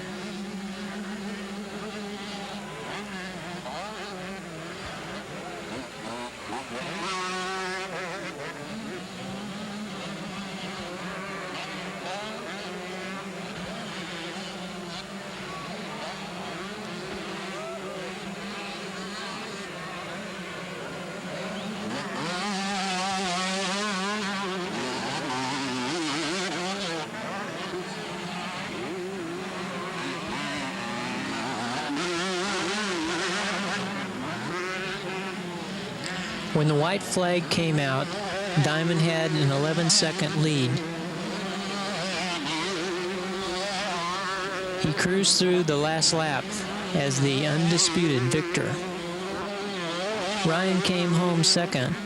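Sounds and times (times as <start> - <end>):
motocross bikes revving: 0.0 - 52.0.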